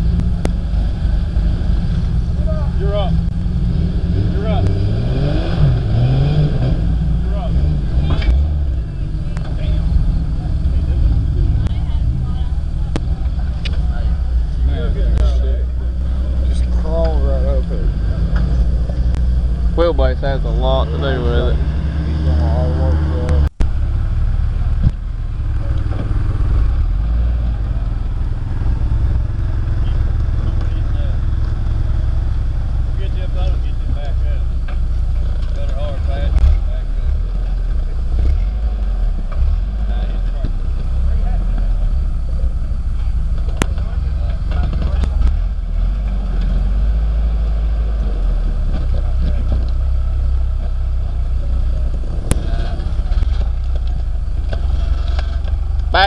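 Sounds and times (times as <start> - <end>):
pickup engine pulsing rumble: 0.0 - 56.0.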